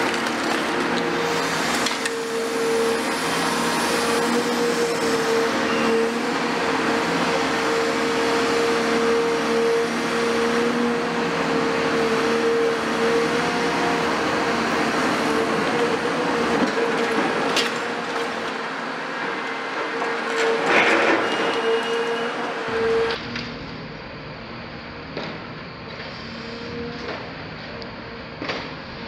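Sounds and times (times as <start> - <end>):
excavator engine and hydraulics whine: 0.0 - 29.0.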